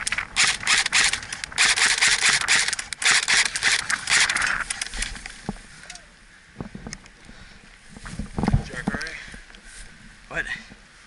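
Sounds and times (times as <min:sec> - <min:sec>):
foliage rustling and scraping: 0:00.0 - 0:11.0.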